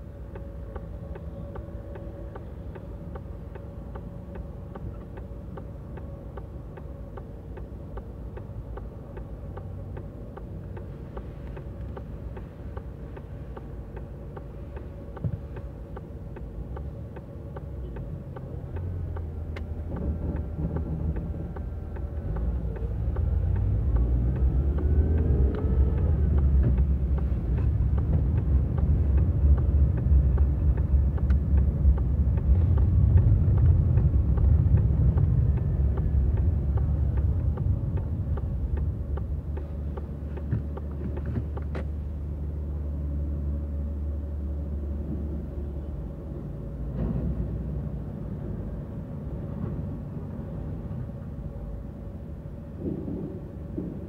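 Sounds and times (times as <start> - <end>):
car engine from inside cabin: 0.0 - 54.0
road rumble: 0.0 - 54.0.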